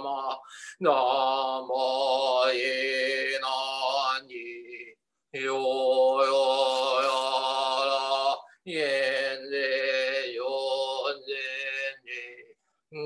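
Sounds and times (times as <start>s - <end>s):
man chanting prayers: 0.0s - 13.0s.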